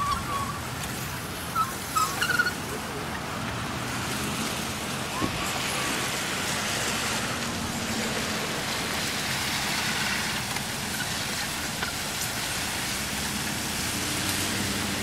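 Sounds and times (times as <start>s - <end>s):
steady rain falling: 0.2s - 15.0s.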